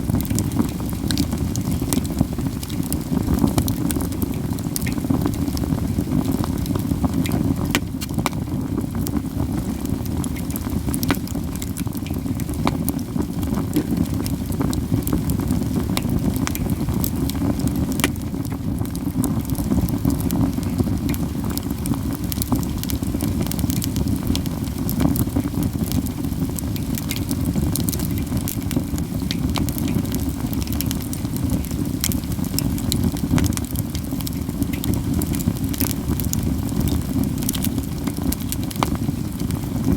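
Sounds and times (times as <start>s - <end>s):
campfire crackling and popping: 0.0s - 39.9s
low rush of fire: 0.0s - 39.9s.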